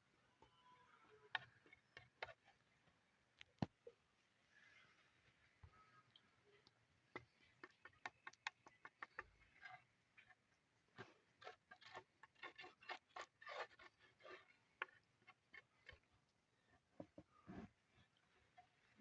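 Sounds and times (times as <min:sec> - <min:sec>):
faint irregular clicks and taps: 0:00.4 - 0:04.0, 0:05.5 - 0:19.0.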